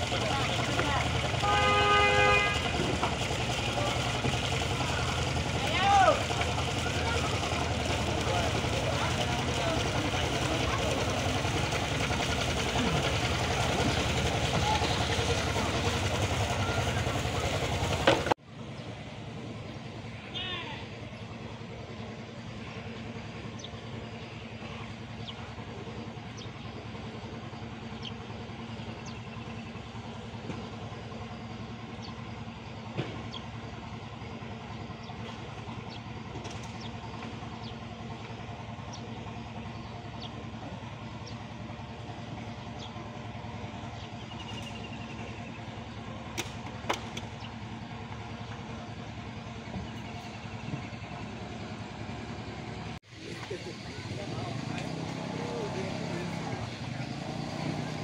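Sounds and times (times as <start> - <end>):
boat engine idling: 0.0 - 58.0.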